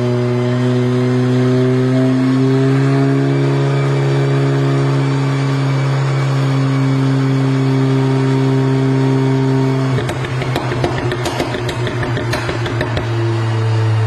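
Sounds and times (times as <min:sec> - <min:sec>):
car exhaust drone: 0:00.0 - 0:14.0.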